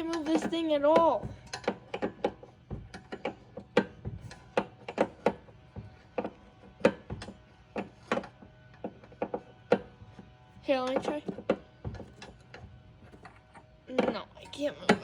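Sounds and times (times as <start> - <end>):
hand tools clicking on metal: 0.0 - 15.0.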